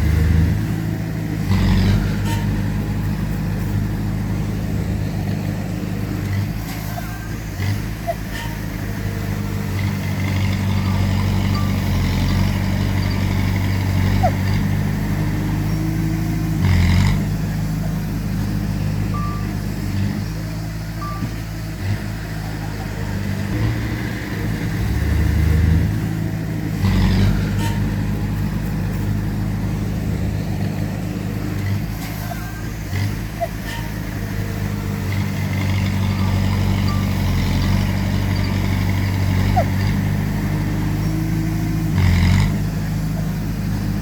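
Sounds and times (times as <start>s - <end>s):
heavy diesel machinery running: 0.0s - 44.0s.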